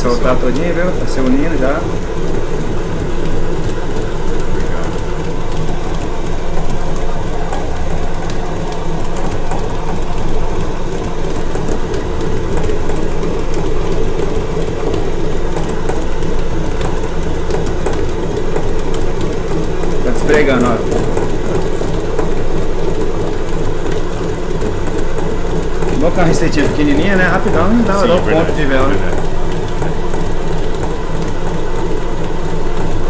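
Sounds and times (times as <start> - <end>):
stand mixer kneading dough: 0.0 - 33.0.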